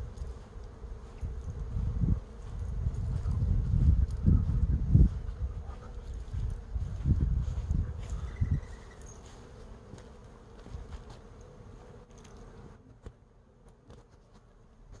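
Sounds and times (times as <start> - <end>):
bees buzzing: 0.0 - 14.9.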